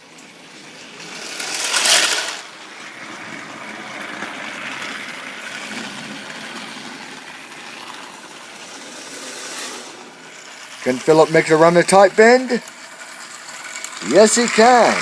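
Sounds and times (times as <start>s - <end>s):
toy train motor whirring: 0.0s - 15.0s
wheels rattling on rails: 0.0s - 15.0s.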